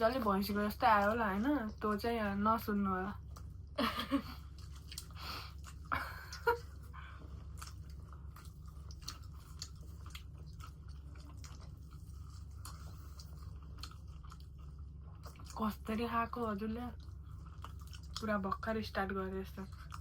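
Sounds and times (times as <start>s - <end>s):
person chewing crunchy food: 3.2s - 18.8s, 19.5s - 20.0s.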